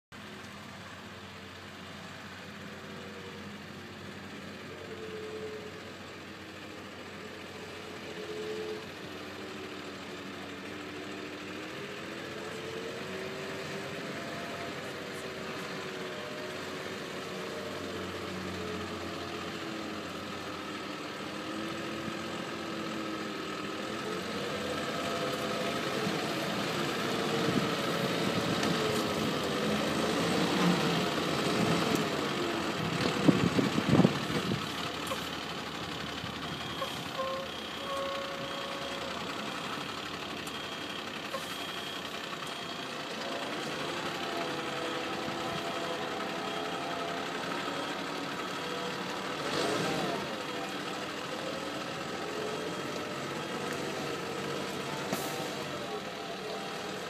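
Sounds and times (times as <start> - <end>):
truck diesel engine at low revs: 0.1 - 57.0.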